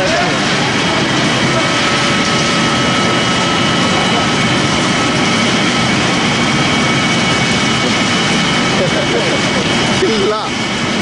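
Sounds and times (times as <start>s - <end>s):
high whining tones: 0.0s - 11.0s
pellet machine mechanical din: 0.0s - 11.0s.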